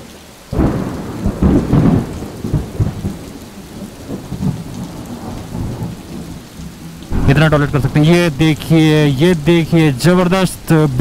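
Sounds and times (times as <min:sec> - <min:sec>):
thunder rumbling: 0:00.5 - 0:11.0.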